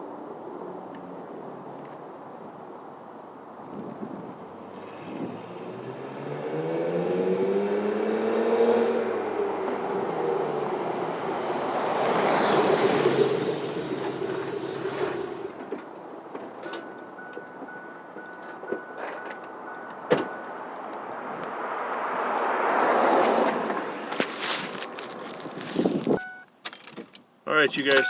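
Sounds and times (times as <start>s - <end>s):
car engine accelerating: 0.3s - 26.1s.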